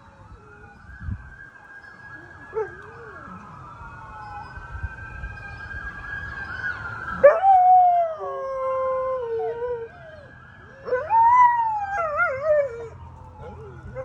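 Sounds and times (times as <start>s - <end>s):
wailing siren: 0.0s - 14.0s.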